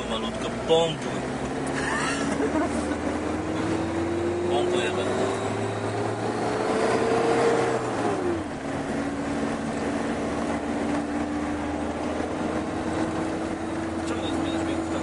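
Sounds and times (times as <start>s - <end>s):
engine working under load: 0.0s - 15.0s.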